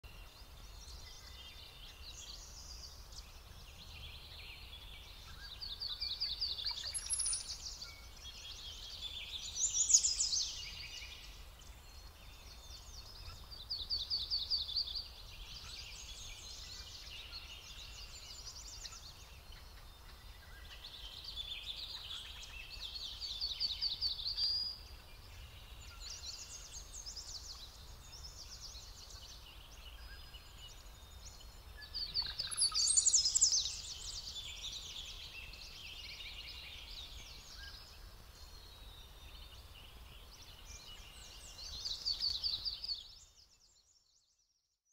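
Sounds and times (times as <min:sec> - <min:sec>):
small birds singing trilled notes: 0:00.0 - 0:44.9.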